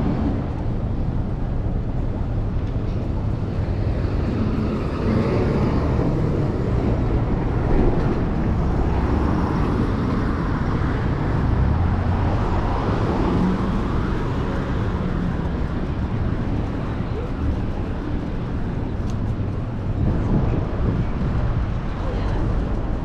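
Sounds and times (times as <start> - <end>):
road traffic rumble: 0.0 - 23.0
wind rushing past microphone: 0.0 - 23.0.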